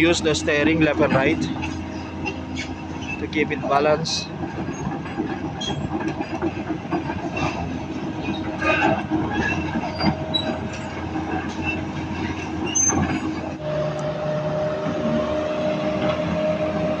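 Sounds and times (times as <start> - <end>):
diesel engine: 0.0 - 17.0
track chains clanking and squealing: 0.0 - 17.0.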